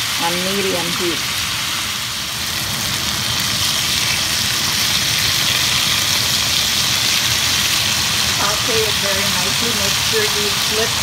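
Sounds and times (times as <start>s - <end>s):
chicken sizzling in a frying pan: 0.0s - 11.0s.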